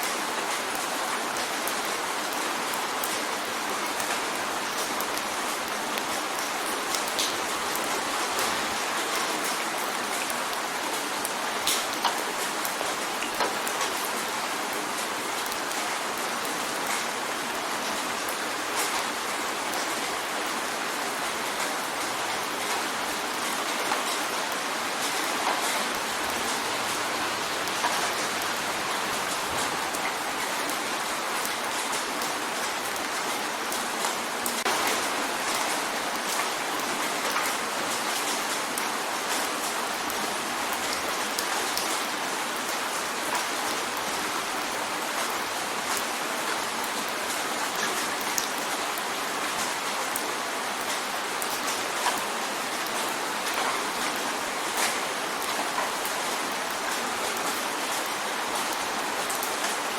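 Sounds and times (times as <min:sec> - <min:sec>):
rain drumming on window: 0:00.0 - 0:59.9.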